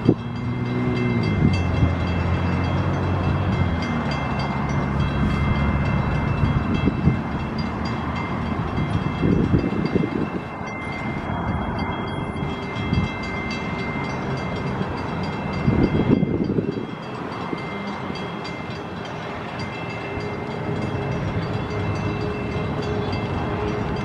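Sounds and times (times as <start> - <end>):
train rumbling by: 0.0 - 24.0.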